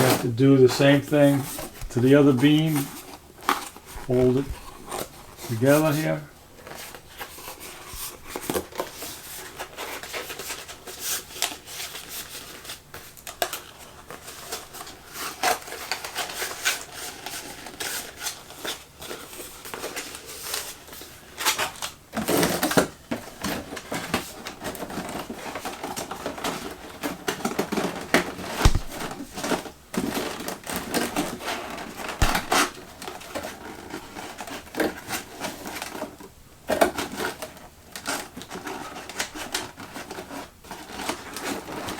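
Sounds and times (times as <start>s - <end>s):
cardboard rustling and crinkling: 0.0s - 41.9s.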